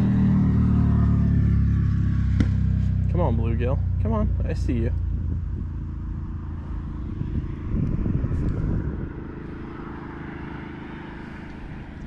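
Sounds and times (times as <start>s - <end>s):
distant engine droning: 0.0s - 12.0s.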